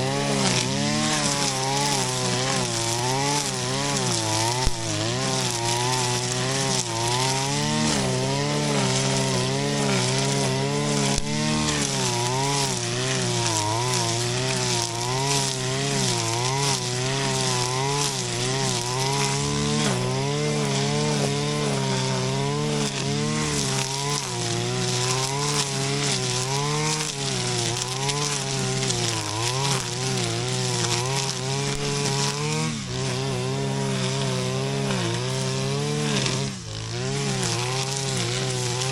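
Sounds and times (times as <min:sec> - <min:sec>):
brush cutter engine cutting grass: 0:00.0 - 0:38.9.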